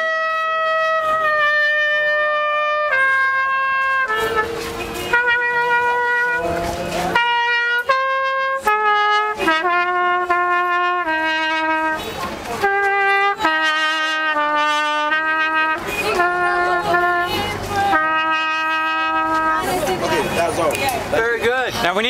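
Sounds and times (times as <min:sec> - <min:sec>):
solo trumpet melody: 0:00.0 - 0:20.0.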